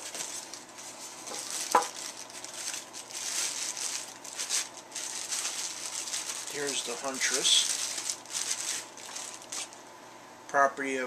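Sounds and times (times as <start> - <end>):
plastic bag and foam crinkling: 0.0 - 9.8.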